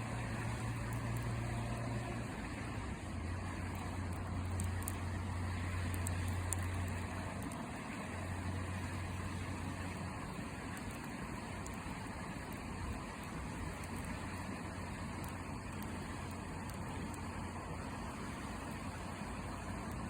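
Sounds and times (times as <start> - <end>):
campfire crackling: 0.0 - 20.0
low hum and rumble: 0.0 - 20.0.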